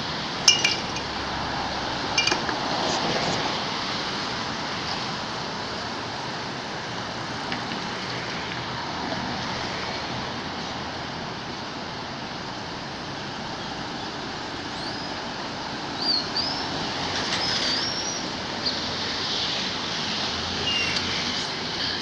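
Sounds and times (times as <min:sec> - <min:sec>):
distant road traffic rushing: 0:00.0 - 0:22.0.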